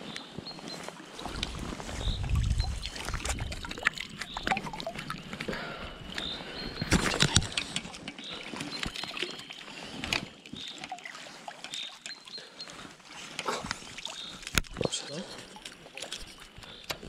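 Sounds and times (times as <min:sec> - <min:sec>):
stream water splashing: 0:00.7 - 0:05.5, 0:06.8 - 0:16.6.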